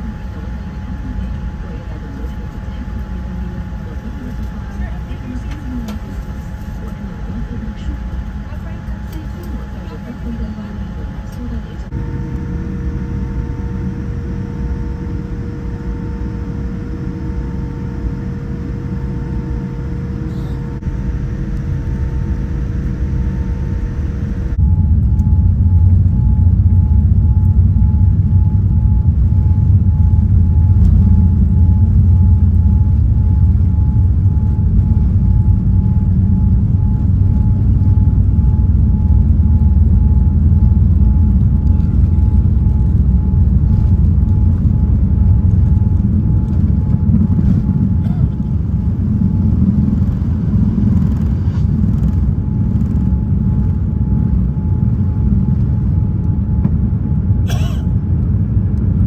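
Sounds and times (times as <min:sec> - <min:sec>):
airplane cabin rumble: 0:00.0 - 0:59.0
faint steady hum: 0:00.0 - 0:59.0.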